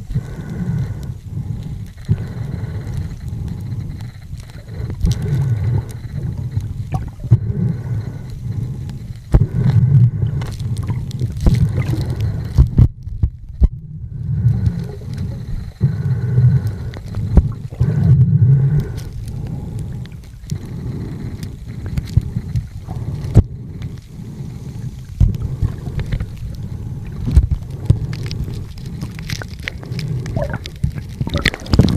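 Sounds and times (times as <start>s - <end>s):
underwater water rumble: 0.0s - 31.9s.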